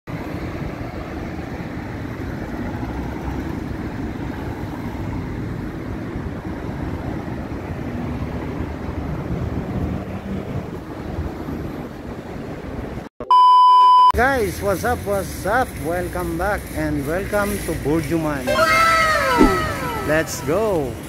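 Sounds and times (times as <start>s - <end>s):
cars and vans driving past: 0.1s - 13.0s, 14.2s - 21.0s.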